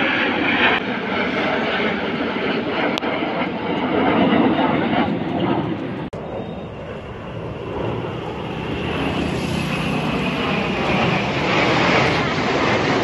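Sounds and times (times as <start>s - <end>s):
jet engines flying overhead: 0.0s - 13.0s.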